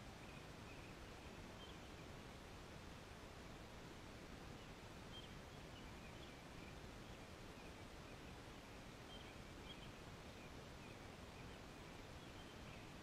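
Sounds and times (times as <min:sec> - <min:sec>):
faint steady hiss: 0:00.0 - 0:13.0
faint bird chirps: 0:00.1 - 0:02.1, 0:04.5 - 0:13.0.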